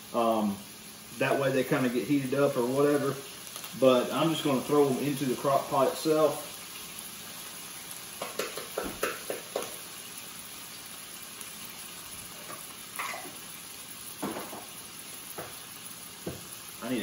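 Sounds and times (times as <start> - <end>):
meat sizzling in a skillet: 0.0 - 17.0.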